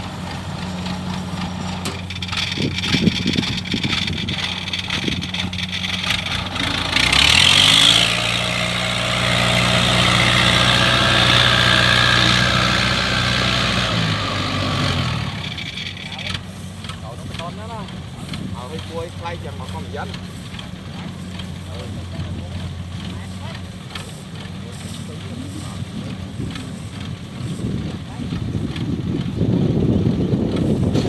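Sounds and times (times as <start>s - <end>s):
tracked carrier engine running: 0.0s - 31.0s.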